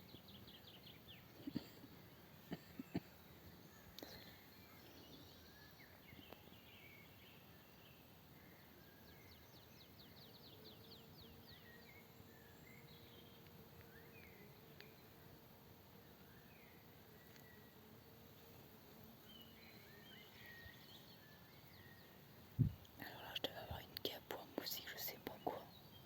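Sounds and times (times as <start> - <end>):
faint bird chirps: 0.0 - 15.2, 19.2 - 26.0
faint steady hum: 0.1 - 25.8.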